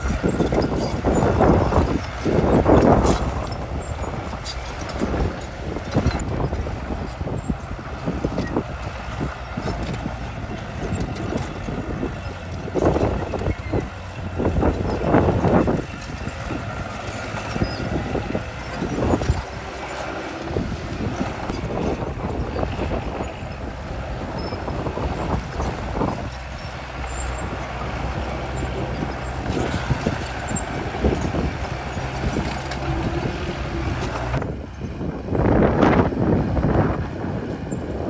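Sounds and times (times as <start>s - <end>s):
bulldozer diesel engine: 0.0s - 38.0s.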